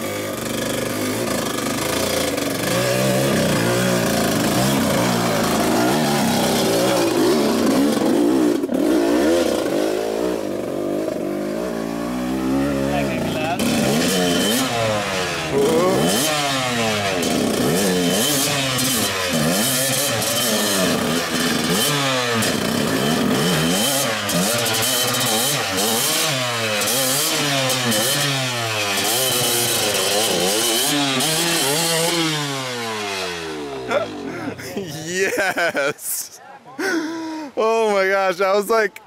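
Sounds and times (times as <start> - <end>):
dirt bike engine revving: 0.0 - 35.8.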